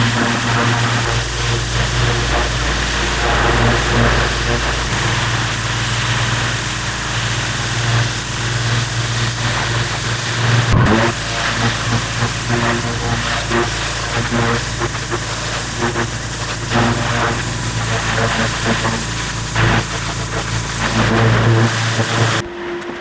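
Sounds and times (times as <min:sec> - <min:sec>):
water jet hissing on stone: 0:00.0 - 0:22.4
pressure washer motor hum: 0:00.0 - 0:22.6.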